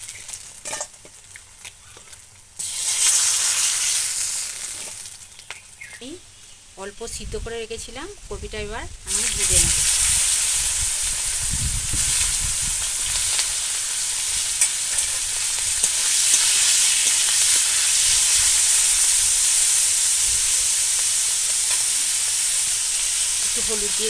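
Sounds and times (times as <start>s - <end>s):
vegetables sizzling in hot oil: 0.0s - 6.5s, 9.0s - 24.0s.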